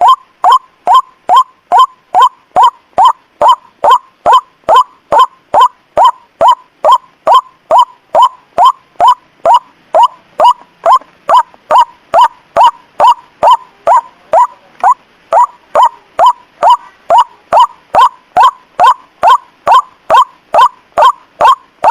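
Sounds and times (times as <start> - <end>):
waterhen call: 0.0 - 21.9.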